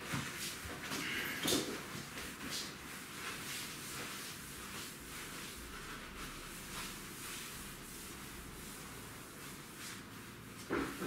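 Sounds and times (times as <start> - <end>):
soft rustling: 0.0 - 11.0.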